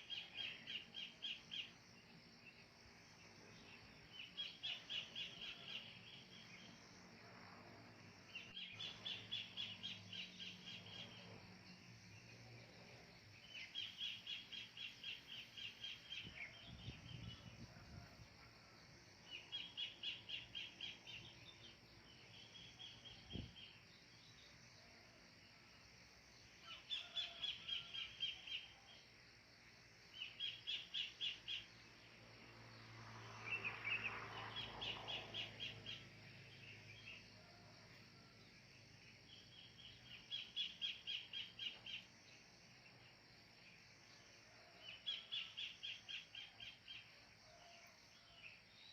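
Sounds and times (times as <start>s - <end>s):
faint rural background noise: 0.0s - 48.9s.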